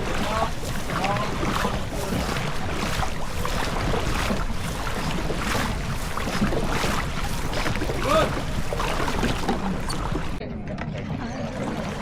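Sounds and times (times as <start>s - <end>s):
boat moving on water: 0.0s - 12.0s
wind buffeting microphone: 0.0s - 12.0s.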